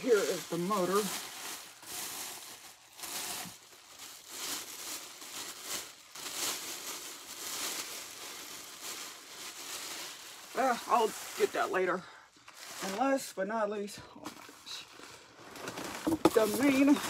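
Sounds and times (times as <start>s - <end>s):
newspaper rustling and crinkling: 0.0s - 13.4s, 14.2s - 17.0s.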